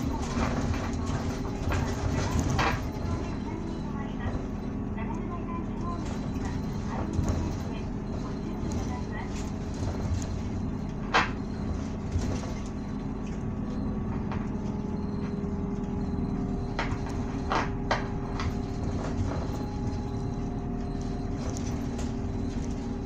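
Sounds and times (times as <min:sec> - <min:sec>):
bus diesel engine humming: 0:00.0 - 0:23.0
road noise: 0:00.0 - 0:23.0.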